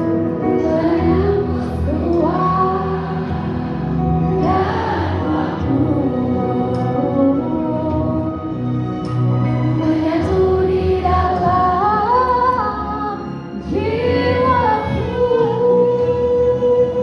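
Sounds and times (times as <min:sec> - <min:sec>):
backing track: 0:00.0 - 0:16.8
woman singing: 0:00.4 - 0:03.4, 0:04.2 - 0:08.6, 0:09.6 - 0:17.0.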